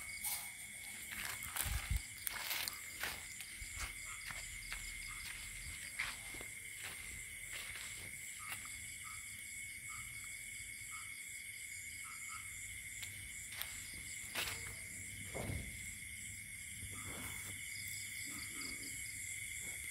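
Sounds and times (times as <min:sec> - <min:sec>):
faint insect chirps: 0:00.0 - 0:19.9
insect trill: 0:00.0 - 0:19.9.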